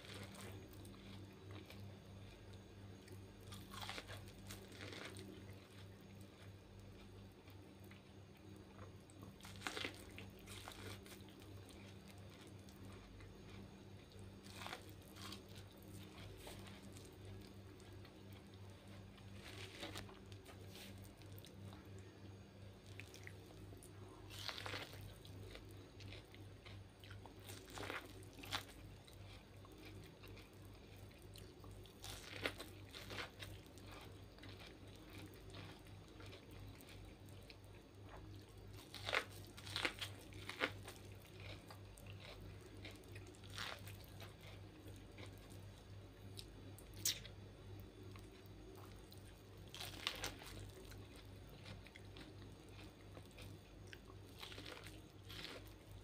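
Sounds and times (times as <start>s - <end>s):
chewing corn crunches: 0.0s - 56.0s
steady low hum: 0.0s - 56.0s.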